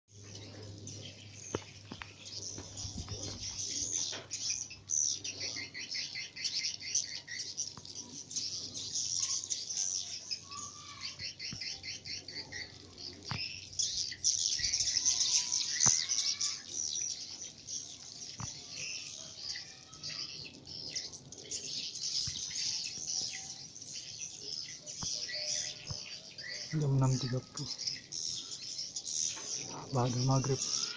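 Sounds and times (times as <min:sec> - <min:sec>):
small birds chirping and trilling: 0:00.1 - 0:30.9.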